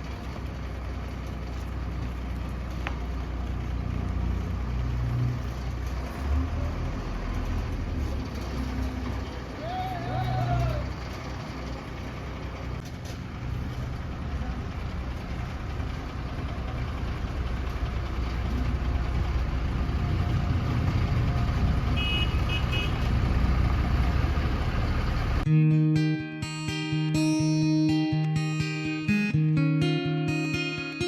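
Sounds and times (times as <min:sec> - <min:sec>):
heavy diesel engine running: 0:00.0 - 0:25.5.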